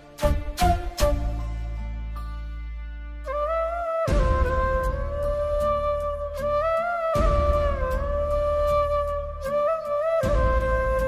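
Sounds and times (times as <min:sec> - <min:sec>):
flute-like melody: 0:00.0 - 0:02.3, 0:03.0 - 0:11.0.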